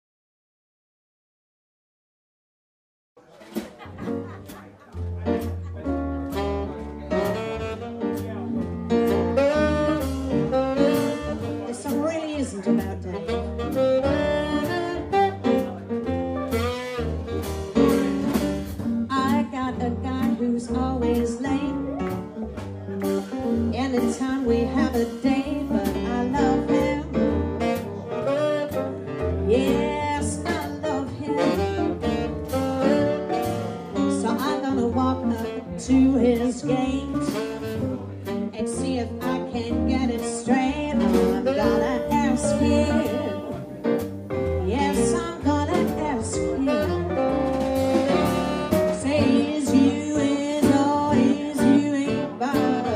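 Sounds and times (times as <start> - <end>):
jazz band playing: 3.3 - 52.9.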